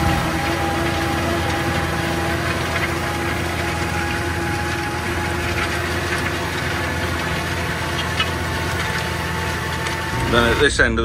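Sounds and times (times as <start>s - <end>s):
tractor engine drone: 0.0s - 11.0s.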